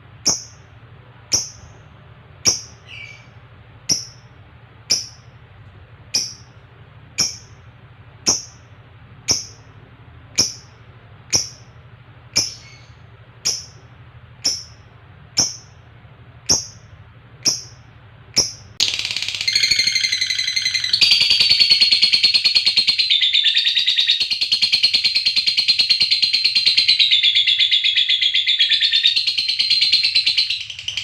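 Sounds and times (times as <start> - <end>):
lovebird chirping and trilling: 0.2 - 0.7, 1.3 - 4.3, 4.9 - 5.3, 6.1 - 6.6, 7.2 - 7.6, 8.2 - 9.7, 10.3 - 13.8, 14.4 - 15.8, 16.5 - 31.0.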